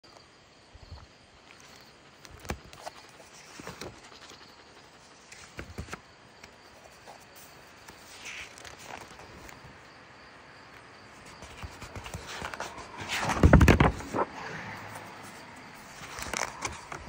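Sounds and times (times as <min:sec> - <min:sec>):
paper pages rustling: 0:01.5 - 0:09.7, 0:11.1 - 0:17.0.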